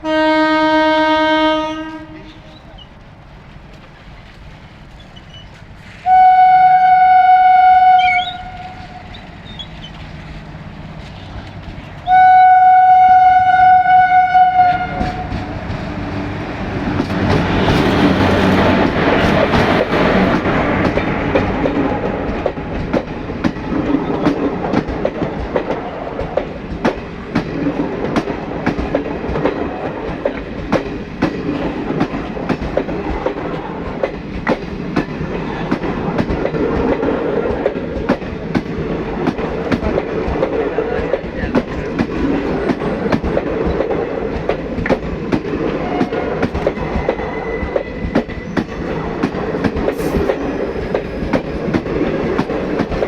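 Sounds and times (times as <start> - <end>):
train rumble: 0.0 - 53.0
wheels clicking over rail joints: 2.1 - 6.1, 8.2 - 12.6, 14.8 - 53.0.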